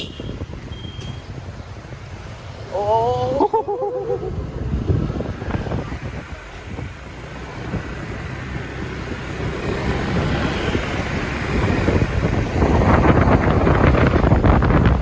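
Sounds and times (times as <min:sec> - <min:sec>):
motorbike engine: 0:00.0 - 0:15.0
road noise: 0:00.0 - 0:15.0
wind buffeting microphone: 0:00.0 - 0:15.0.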